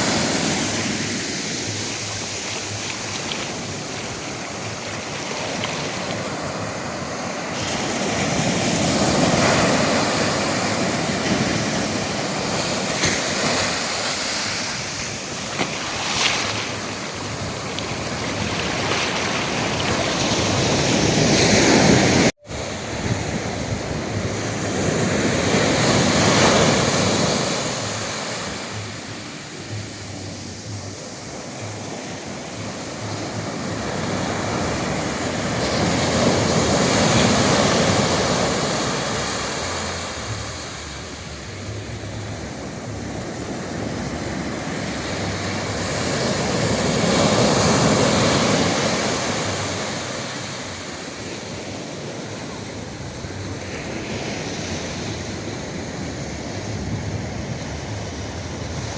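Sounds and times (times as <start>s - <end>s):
ocean waves breaking: 0.0s - 58.9s.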